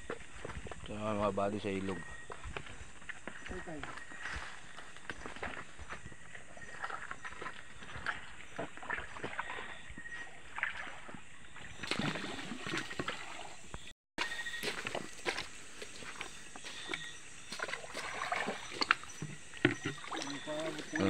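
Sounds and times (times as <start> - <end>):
people wading through shallow water: 0.0 - 21.0
water sloshing and splashing: 2.3 - 21.0.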